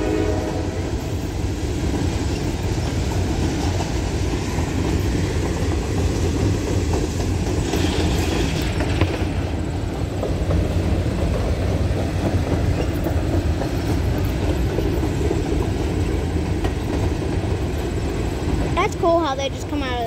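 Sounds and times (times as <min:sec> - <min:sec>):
steel train wheels rolling on rails: 0:00.0 - 0:20.0.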